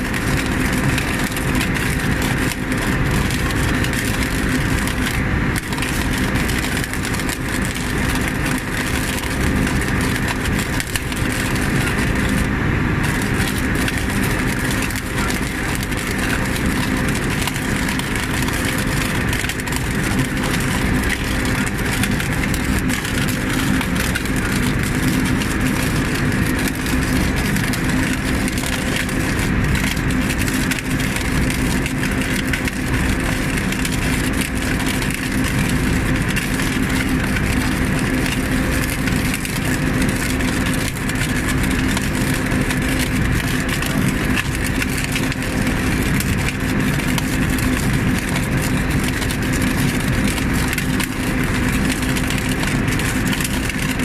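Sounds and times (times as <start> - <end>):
welding machine engine humming: 0.0 - 54.0.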